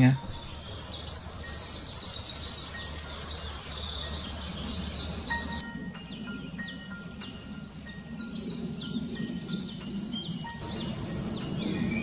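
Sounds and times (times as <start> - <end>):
robin singing: 0.0 - 12.0.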